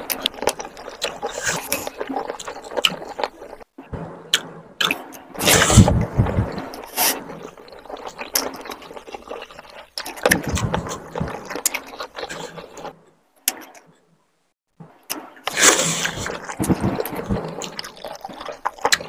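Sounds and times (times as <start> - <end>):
wet chewing: 0.0 - 3.7, 4.4 - 14.2, 15.1 - 19.0.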